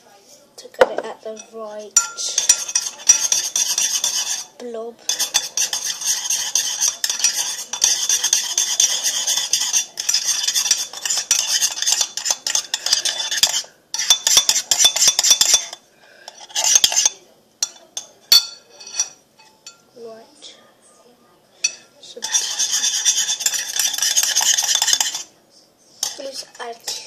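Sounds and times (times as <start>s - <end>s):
scraping against ceramic bowl: 0.8s - 19.9s, 21.6s - 25.3s, 26.0s - 27.0s
utensil stirring slime in bowl: 1.1s - 19.8s, 21.7s - 25.3s, 26.0s - 27.0s.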